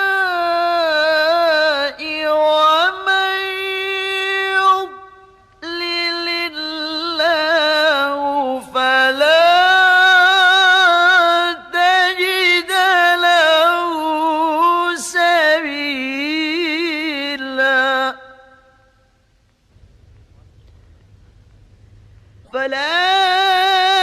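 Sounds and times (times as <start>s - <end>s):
man reciting melodically: 0.0s - 19.0s, 22.4s - 24.0s.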